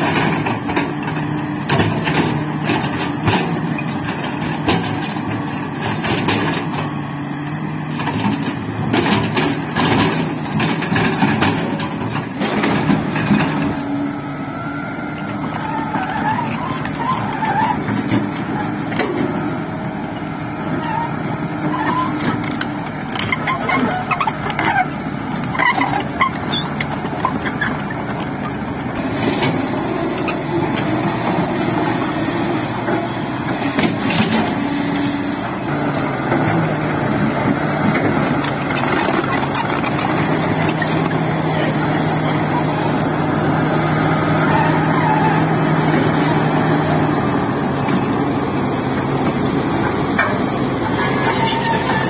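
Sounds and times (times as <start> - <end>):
diesel construction machinery running: 0.0 - 52.0.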